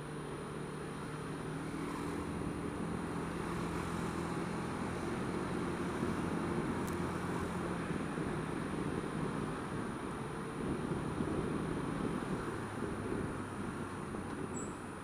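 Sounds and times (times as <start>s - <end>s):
car traffic rumbling in tunnel: 0.0s - 15.0s.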